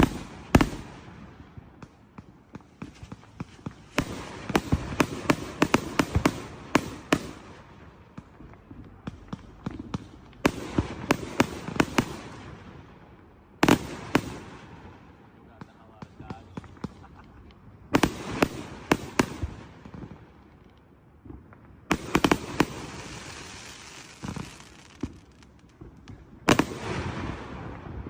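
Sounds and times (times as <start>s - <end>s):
fireworks crackle: 0.0s - 12.6s, 13.6s - 28.0s
fireworks bangs: 0.0s - 28.0s.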